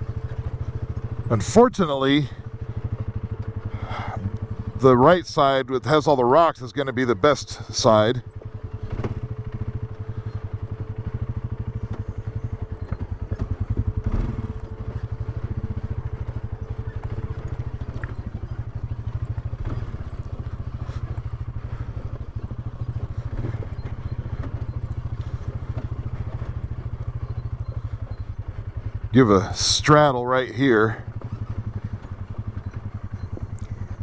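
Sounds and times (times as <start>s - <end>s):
atv engine running slowly: 0.0s - 34.0s.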